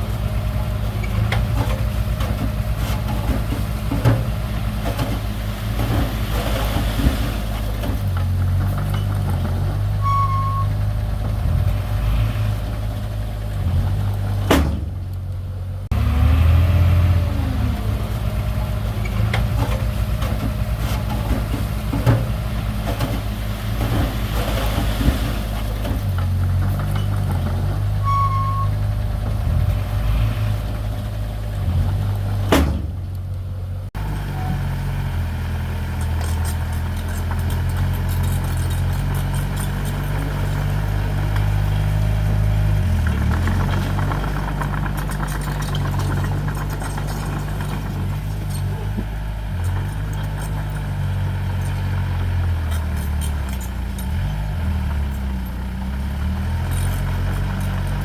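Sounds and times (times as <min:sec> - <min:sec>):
heavy machinery diesel engine running: 0:00.0 - 0:58.0.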